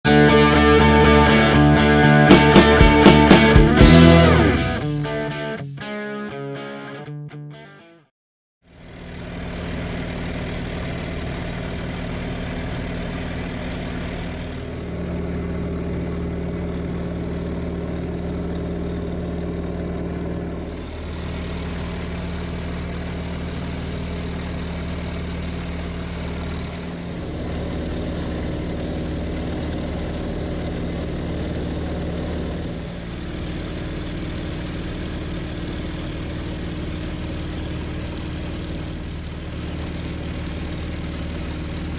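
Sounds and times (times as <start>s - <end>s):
piston engine and propeller drone: 0.5s - 5.4s, 8.7s - 41.9s.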